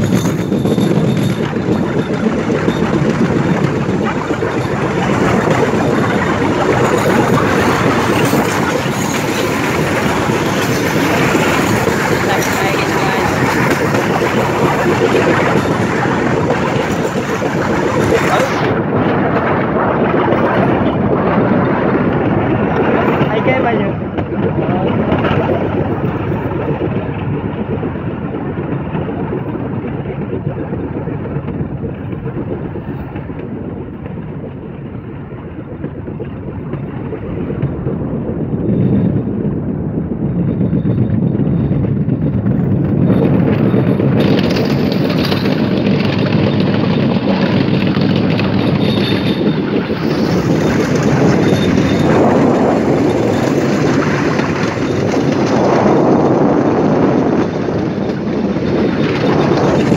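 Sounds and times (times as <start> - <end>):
rail cart rumbling on rails: 0.0 - 59.9.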